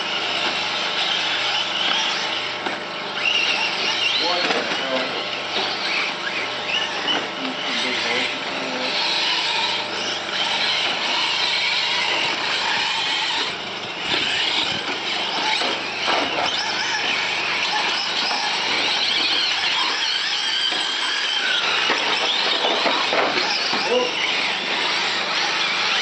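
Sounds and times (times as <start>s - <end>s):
toy truck motors whining: 0.0s - 26.0s.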